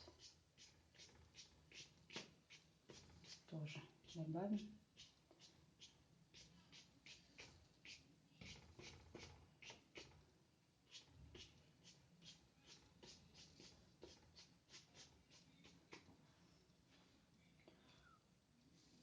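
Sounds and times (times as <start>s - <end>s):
paintbrush strokes on paper: 0.0s - 10.2s, 10.8s - 17.3s.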